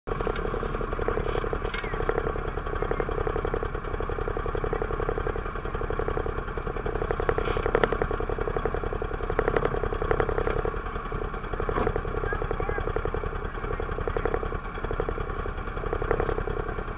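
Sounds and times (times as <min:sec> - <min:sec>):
atv engine idling: 0:00.1 - 0:16.9.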